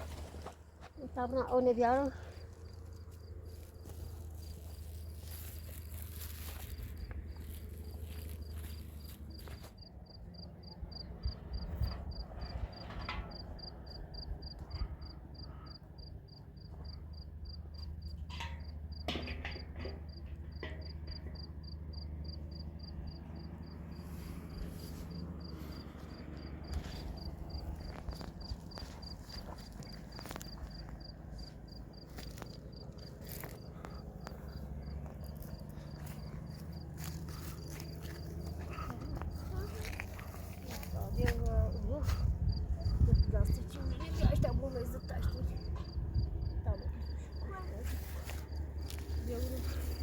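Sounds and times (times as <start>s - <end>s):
steady low rumble: 0.0s - 19.0s, 20.1s - 50.0s
cricket chirping: 0.0s - 50.0s.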